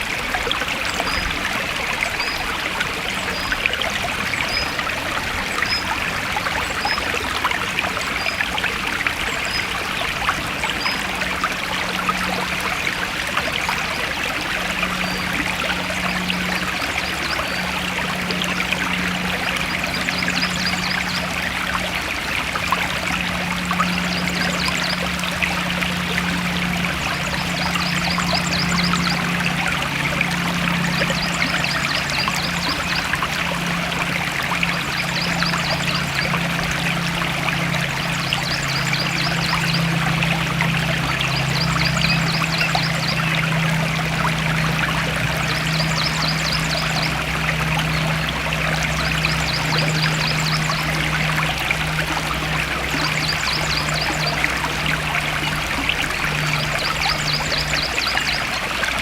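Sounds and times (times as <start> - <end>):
low steady hum: 0.0 - 59.0
stream water trickling: 0.0 - 59.0.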